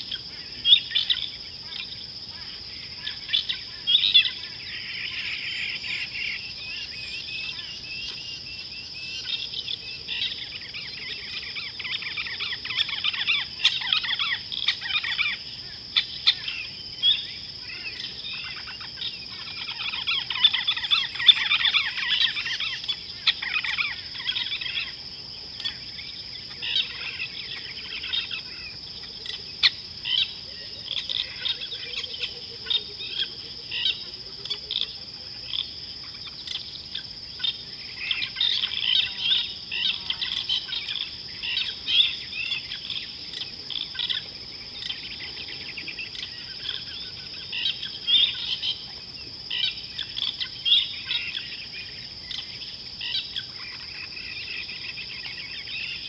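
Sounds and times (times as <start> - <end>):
birds chirping and trilling: 0.0 - 56.0
high-pitched insect drone: 0.0 - 56.0.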